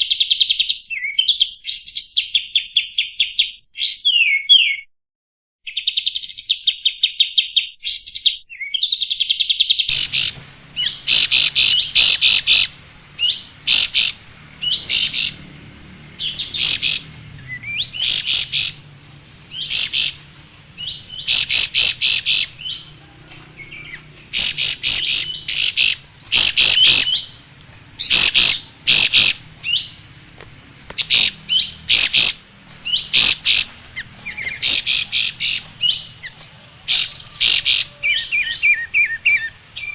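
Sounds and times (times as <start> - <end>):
bird chattering song: 5.7 - 39.9.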